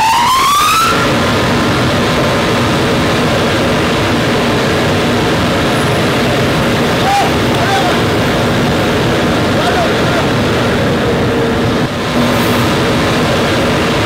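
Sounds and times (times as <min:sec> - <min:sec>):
blower whine: 0:00.0 - 0:14.0
burner flame rushing: 0:00.0 - 0:14.0.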